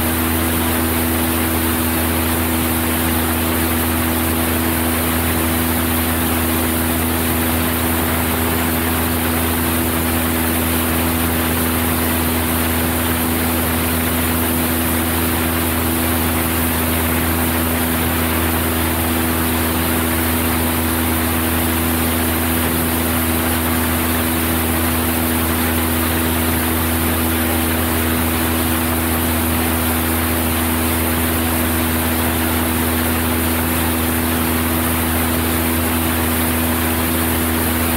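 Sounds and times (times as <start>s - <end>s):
light aircraft engine drone: 0.0s - 37.9s.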